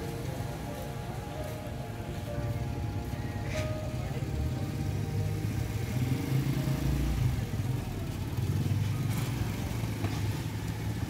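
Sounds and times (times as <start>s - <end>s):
auto-rickshaw engine passing: 0.0s - 11.0s.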